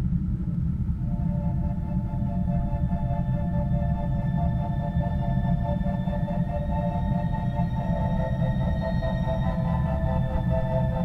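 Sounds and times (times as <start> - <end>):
ambient music organ-like drone: 0.9 - 11.0.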